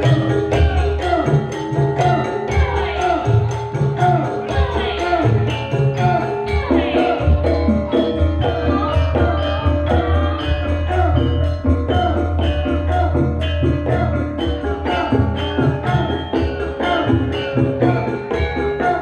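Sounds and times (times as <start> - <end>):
strong bass: 0.0 - 18.8
gamelan metallophones ringing: 0.0 - 19.0.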